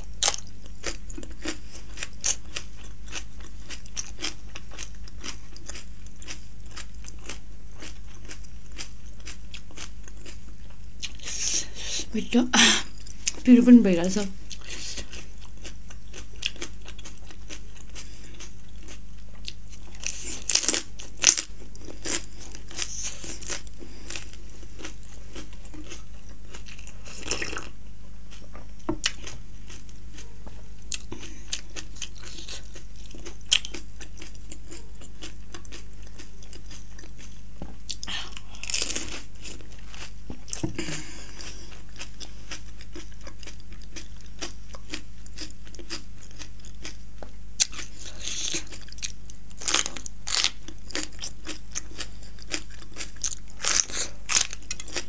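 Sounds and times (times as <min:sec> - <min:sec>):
chewing and crunching food: 0:00.0 - 0:11.4, 0:14.1 - 0:55.0.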